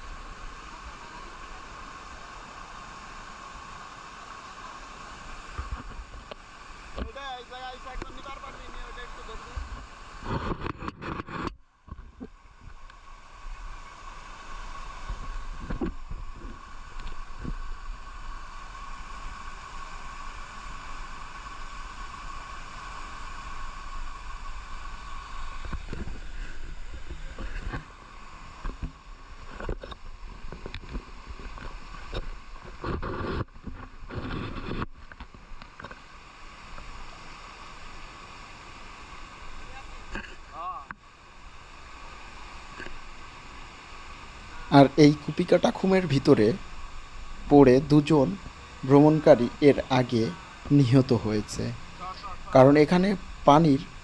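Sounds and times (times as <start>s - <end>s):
water rushing down cascade: 0.0s - 10.5s, 12.4s - 32.8s, 35.3s - 54.0s.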